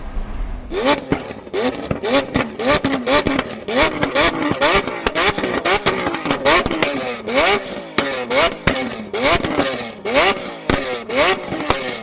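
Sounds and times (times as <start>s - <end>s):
engine revving: 0.0s - 12.0s
exhaust pops and crackles: 0.8s - 12.0s.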